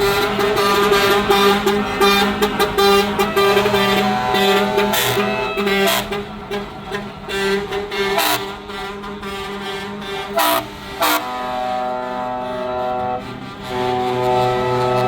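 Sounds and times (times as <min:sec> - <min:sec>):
truck air horns blowing: 0:00.0 - 0:15.0.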